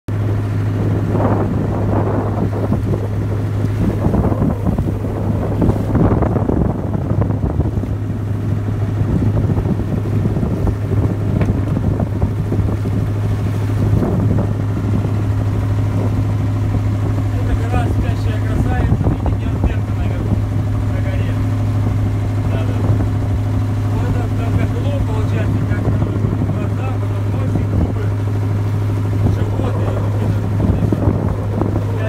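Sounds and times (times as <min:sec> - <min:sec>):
motorboat engine droning: 0:00.1 - 0:32.0
water rushing past hull: 0:00.1 - 0:32.0
wind buffeting microphone: 0:00.1 - 0:32.0.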